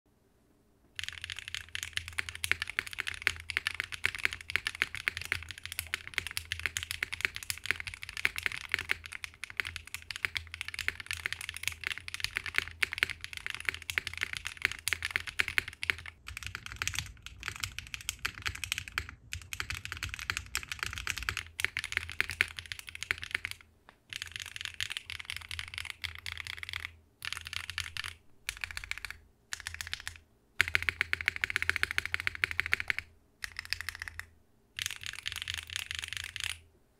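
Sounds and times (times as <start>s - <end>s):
fast typing on mechanical keyboard: 1.0s - 36.6s.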